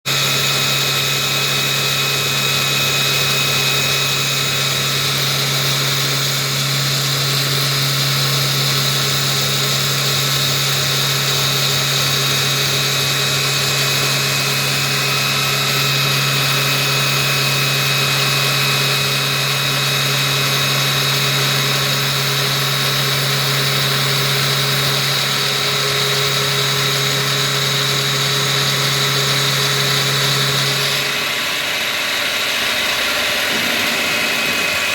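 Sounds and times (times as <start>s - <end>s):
milling machine high whine: 0.1s - 34.9s
milling machine low hum: 0.1s - 34.9s.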